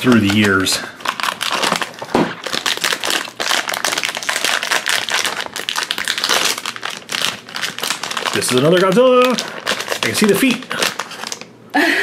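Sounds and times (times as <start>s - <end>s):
foil bag crinkling: 0.0s - 11.5s.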